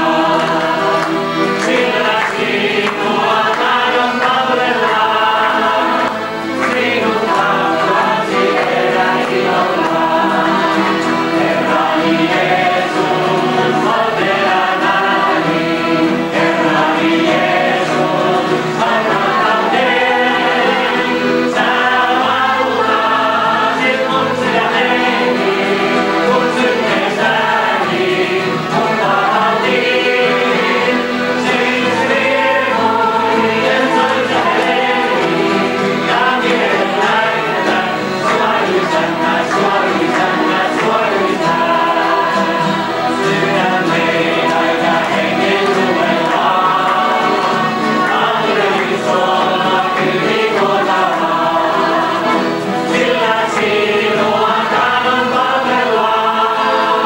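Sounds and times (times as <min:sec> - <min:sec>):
group singing gospel: 0:00.0 - 0:57.0
strummed acoustic guitars: 0:00.0 - 0:57.0.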